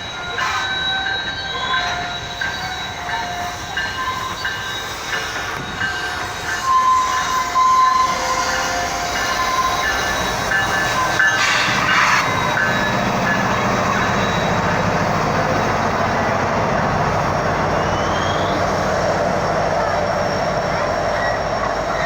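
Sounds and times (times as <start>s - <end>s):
rumble of train wheels: 0.0s - 22.0s
train wheels squealing: 0.0s - 22.0s.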